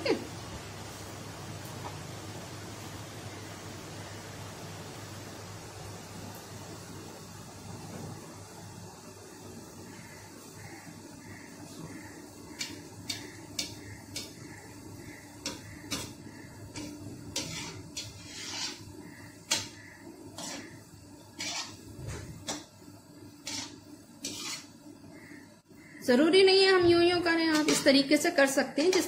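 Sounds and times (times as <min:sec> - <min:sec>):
balls sizzling in hot oil: 0:00.0 - 0:29.0.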